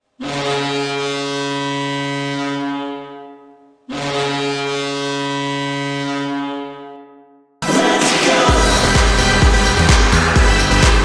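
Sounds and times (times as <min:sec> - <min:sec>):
goal horn blasts: 0:00.2 - 0:11.0.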